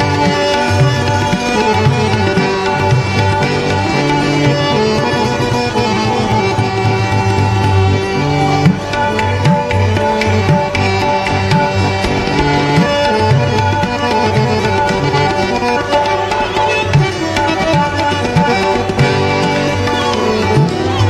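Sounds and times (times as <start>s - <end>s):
tabla playing a rhythm: 0.0s - 21.0s.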